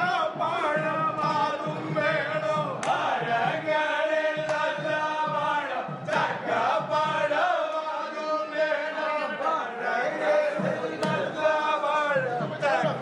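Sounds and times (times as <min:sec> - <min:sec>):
group chanting to a beat: 0:00.0 - 0:13.0.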